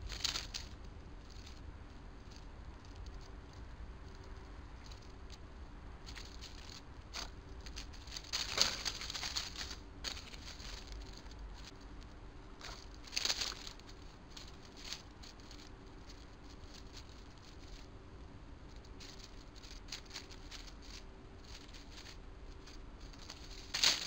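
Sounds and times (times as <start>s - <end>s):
rodent rustling in dry leaves: 0.0s - 24.0s.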